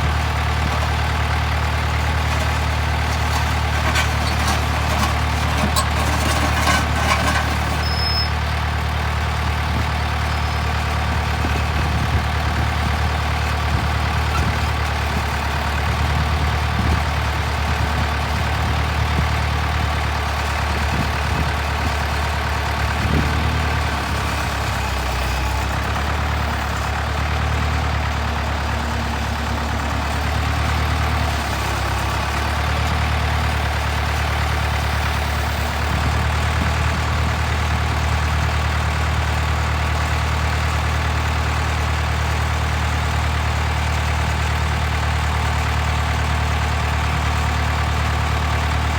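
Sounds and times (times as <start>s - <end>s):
trencher engine idling: 0.0s - 48.9s.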